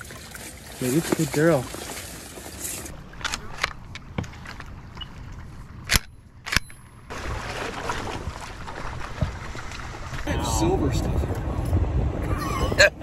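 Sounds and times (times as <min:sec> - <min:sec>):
wind and water hiss: 0:00.0 - 0:06.0, 0:07.1 - 0:13.0.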